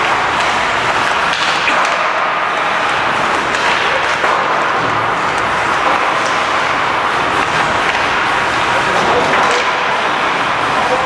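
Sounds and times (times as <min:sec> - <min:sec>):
pucks and sticks clacking: 0:00.0 - 0:11.0.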